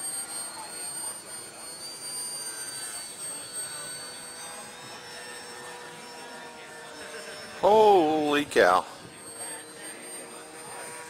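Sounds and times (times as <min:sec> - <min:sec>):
model airplane motor whine: 0:00.0 - 0:11.0.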